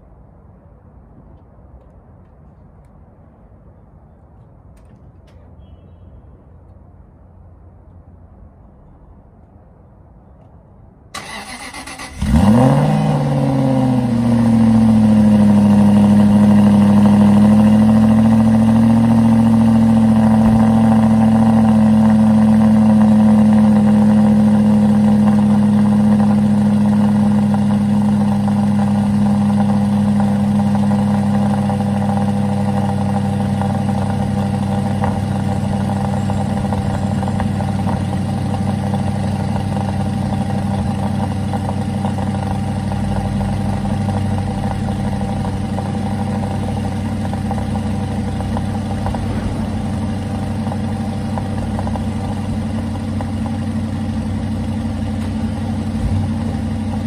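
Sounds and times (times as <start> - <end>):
car engine starting and idling: 11.1 - 57.0.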